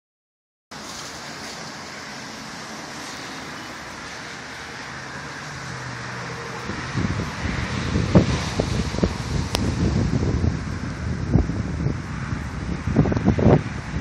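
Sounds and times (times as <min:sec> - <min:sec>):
wind gusts buffeting microphone: 0:01.2 - 0:14.0
wind rushing: 0:02.1 - 0:14.0.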